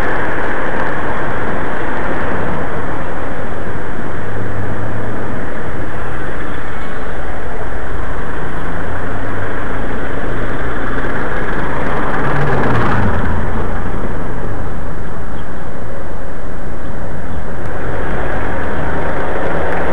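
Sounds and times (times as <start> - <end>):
street traffic: 0.0 - 19.9
wind on microphone: 0.0 - 19.9.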